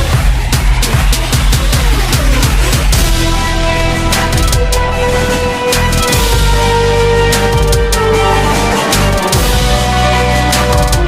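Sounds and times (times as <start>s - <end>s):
background music with drums: 0.0s - 11.0s.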